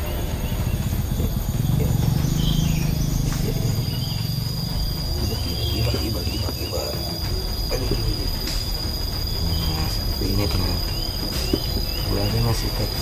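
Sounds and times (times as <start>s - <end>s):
insect buzzing: 0.0s - 13.0s
low rumble: 0.0s - 13.0s
small birds chirping: 0.0s - 13.0s.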